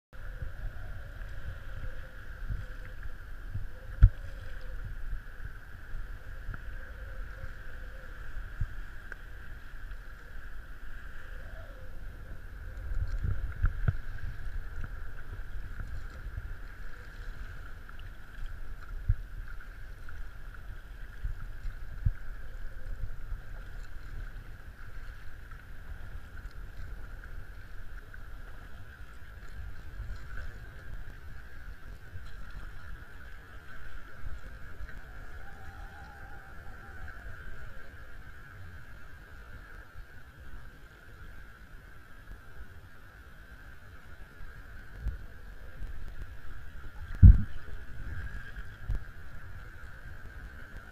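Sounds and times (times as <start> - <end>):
wind rumble on microphone: 0.1 - 50.9.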